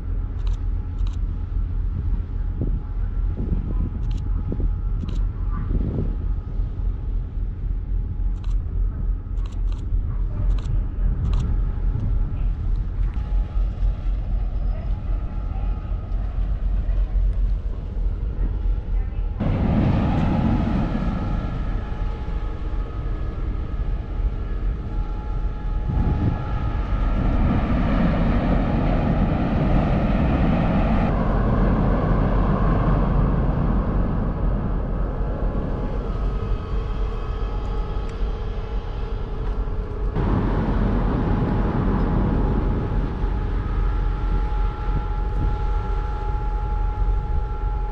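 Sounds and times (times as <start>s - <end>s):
faint steady hum: 0.0s - 47.9s
ship engines low rumble: 0.0s - 47.9s.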